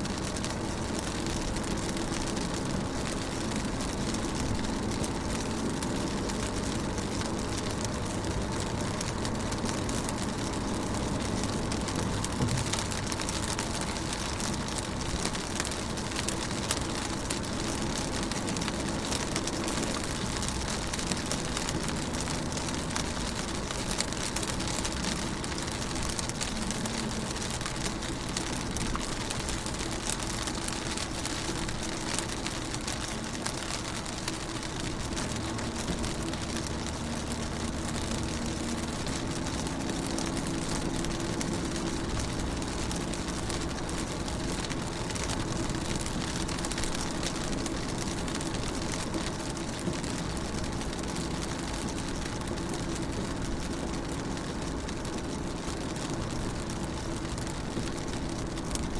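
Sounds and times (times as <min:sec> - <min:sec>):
rain ticking on car window: 0:00.0 - 0:58.9.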